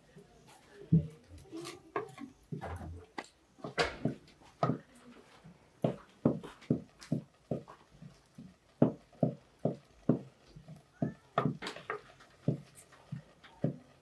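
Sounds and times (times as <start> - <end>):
wooden stick stirring beans in pot: 0.2 - 14.0.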